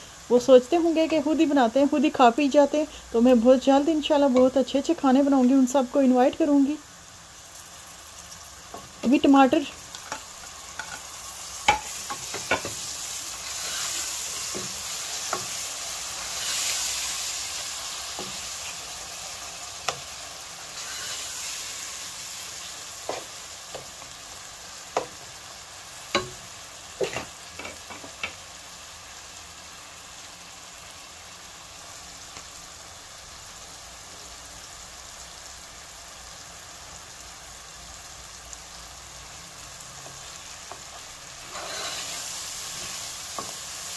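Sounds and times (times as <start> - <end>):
tomatoes sizzling in hot oil: 0.0 - 43.9.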